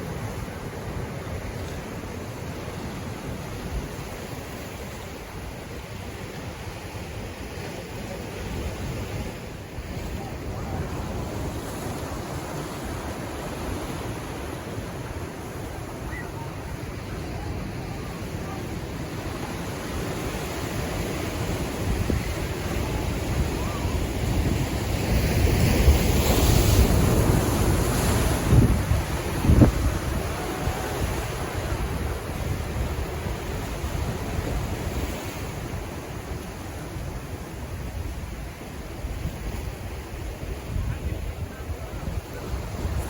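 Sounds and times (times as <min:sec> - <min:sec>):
ocean waves washing in: 0:00.0 - 0:43.0
wind rumbling on microphone: 0:00.0 - 0:43.0.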